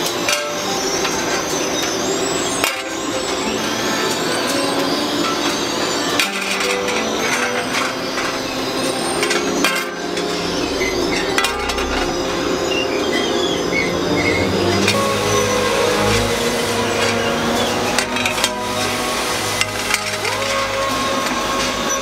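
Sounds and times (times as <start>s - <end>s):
metal pans clinking: 0.0s - 2.0s, 2.6s - 12.5s, 15.8s - 22.0s
steady machine hum: 0.0s - 22.0s.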